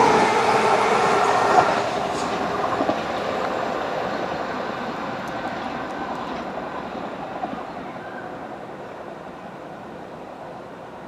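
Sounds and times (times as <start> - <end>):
electric train running away: 0.0 - 10.9.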